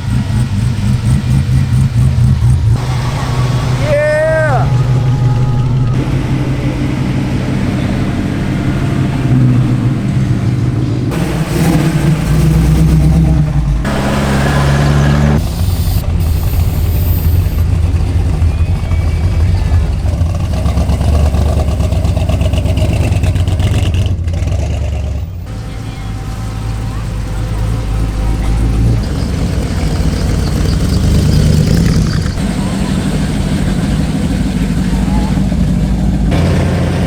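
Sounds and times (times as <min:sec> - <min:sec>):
car engine idling loudly: 0:00.0 - 0:37.0.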